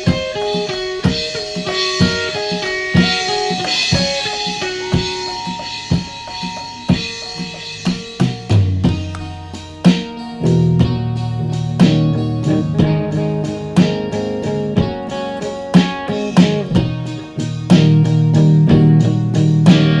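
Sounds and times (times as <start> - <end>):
drum hits: 0.0 - 20.0
synth and guitar melody: 0.0 - 20.0.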